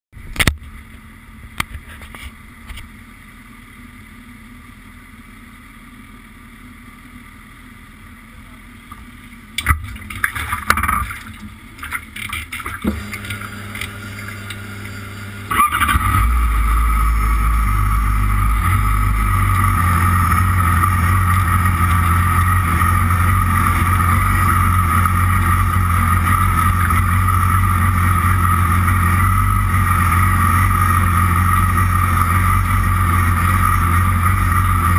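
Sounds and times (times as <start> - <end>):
motorcycle engine idling: 0.2 - 9.6, 14.7 - 34.9.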